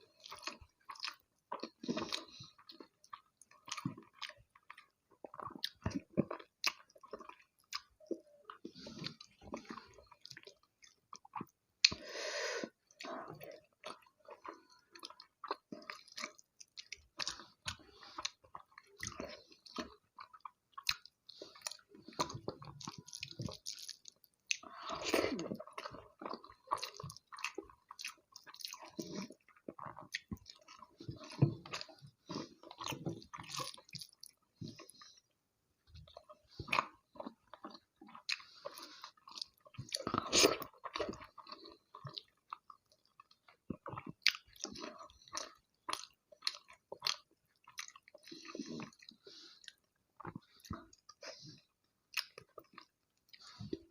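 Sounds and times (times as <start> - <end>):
wet chewing and mouth sounds: 0.0 - 53.9.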